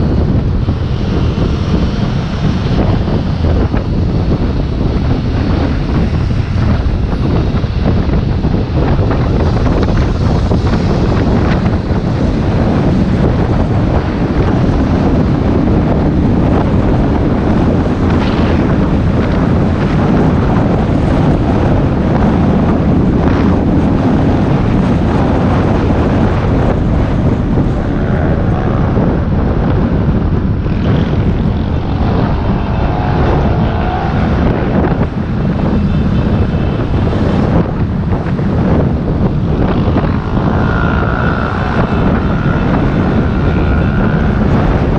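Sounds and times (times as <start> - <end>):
road and traffic noise: 0.0 - 44.9
wind buffeting microphone: 0.0 - 44.9.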